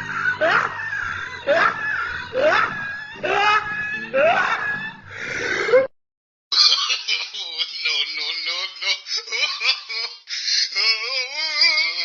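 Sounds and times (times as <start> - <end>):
high-pitched shrieking laugh: 0.0 - 5.9, 6.5 - 12.0.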